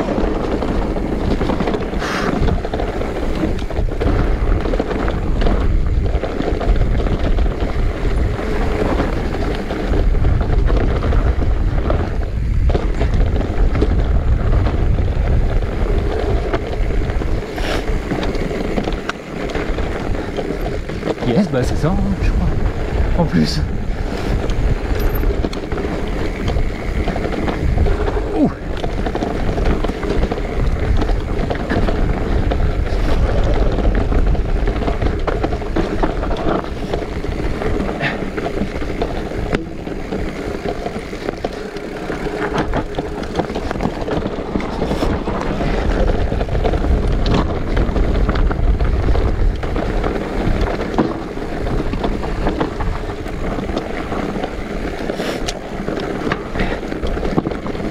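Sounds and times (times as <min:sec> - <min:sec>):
bike knocks and rattles: 0:00.0 - 0:57.9
tyres rolling over dirt: 0:00.0 - 0:57.9
wind buffeting microphone: 0:00.0 - 0:57.9.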